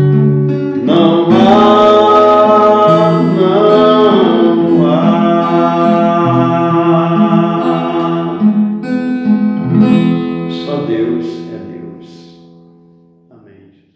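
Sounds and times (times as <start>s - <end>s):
acoustic guitar strumming: 0.0s - 13.8s.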